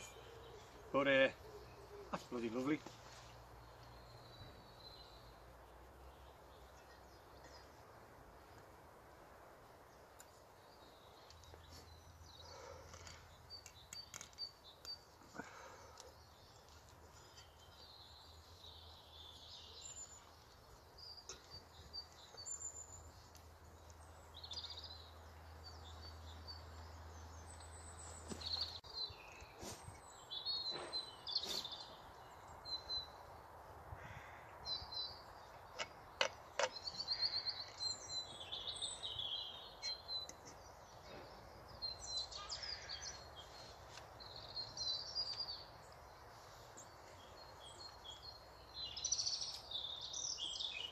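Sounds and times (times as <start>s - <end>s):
small birds chirping: 0.0s - 8.9s, 9.6s - 50.9s.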